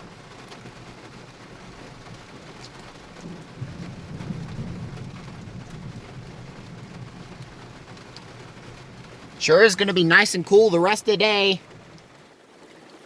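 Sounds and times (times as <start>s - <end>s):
heavy rain falling: 0.0s - 13.0s
raindrops ticking nearby: 0.0s - 13.0s.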